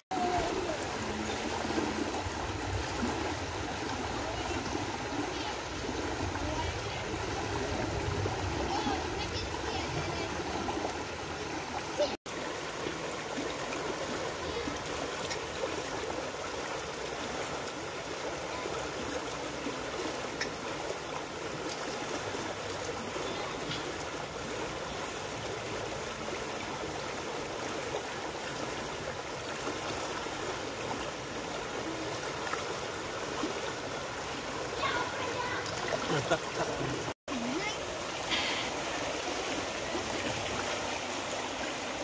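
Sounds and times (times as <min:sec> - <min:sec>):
river water rushing over rocks: 0:00.1 - 0:42.0.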